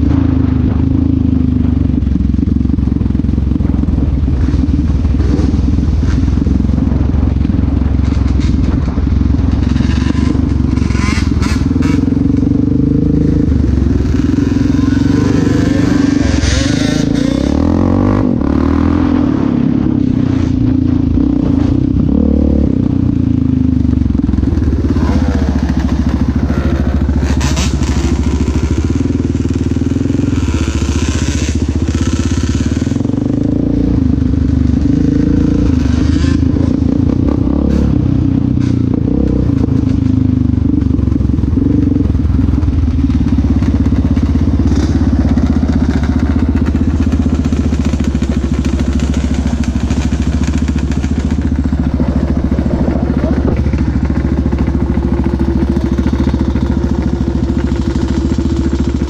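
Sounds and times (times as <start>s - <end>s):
quad bike engine revving: 0.0s - 59.0s
rattles over rough ground: 2.0s - 18.4s, 22.8s - 59.0s.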